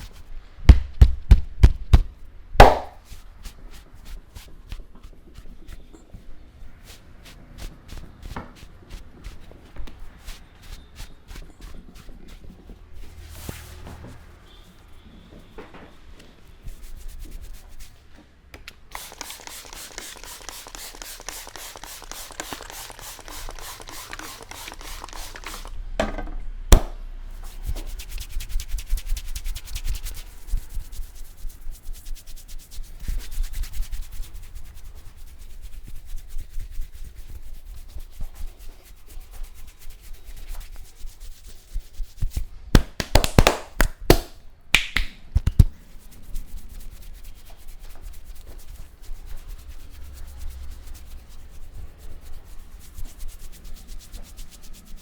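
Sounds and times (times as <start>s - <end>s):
hands rubbing scalp and hair: 0.0s - 13.8s, 16.2s - 18.1s, 18.9s - 25.8s, 26.7s - 55.0s.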